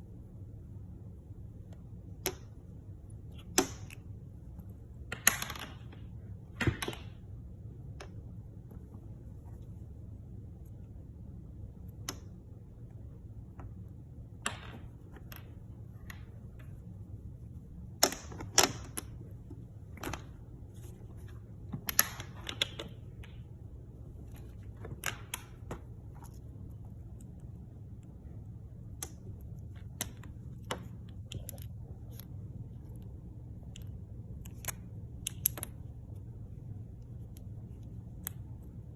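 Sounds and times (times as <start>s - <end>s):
low hum: 0.0s - 38.9s.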